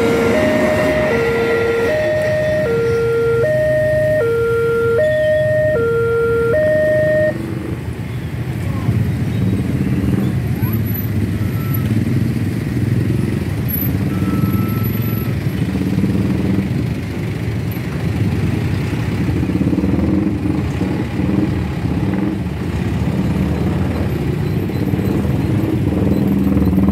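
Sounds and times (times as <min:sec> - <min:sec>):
heavy diesel vehicles passing: 0:00.0 - 0:26.9.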